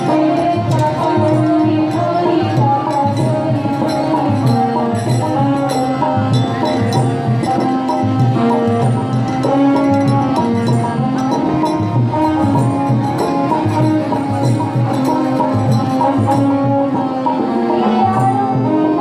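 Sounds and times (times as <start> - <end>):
low percussion beat: 0.0 - 18.8.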